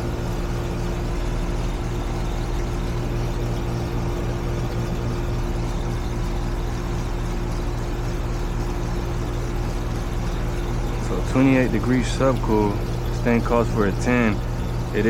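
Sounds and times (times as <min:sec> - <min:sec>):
compressor electrical hum: 0:00.0 - 0:15.0
condenser fan whir: 0:00.0 - 0:15.0.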